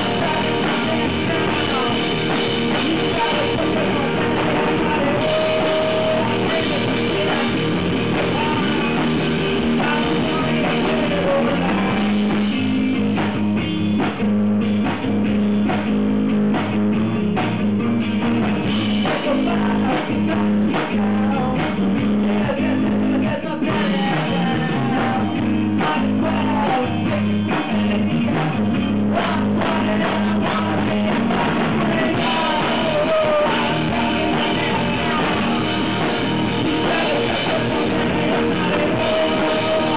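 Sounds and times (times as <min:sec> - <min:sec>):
drum kit beat: 0:00.0 - 0:39.9
electric guitar: 0:00.0 - 0:39.9.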